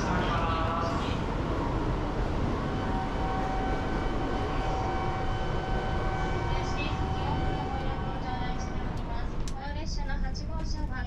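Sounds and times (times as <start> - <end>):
train rumble with whine: 0.0 - 11.0.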